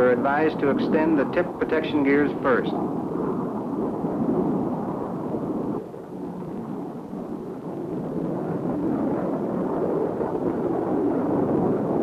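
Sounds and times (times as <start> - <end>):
jet aircraft roaring: 0.0 - 12.0.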